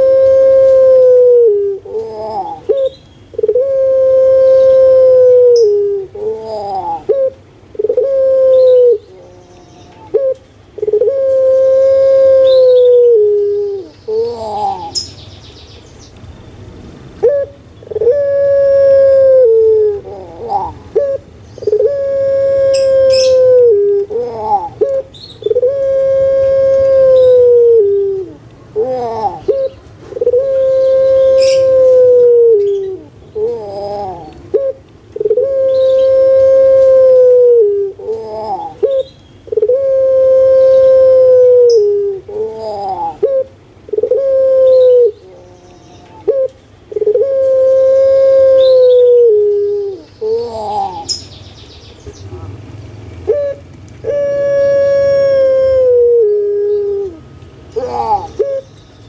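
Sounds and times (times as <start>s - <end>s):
dove cooing: 0.0s - 15.1s, 17.2s - 51.2s, 53.2s - 58.7s.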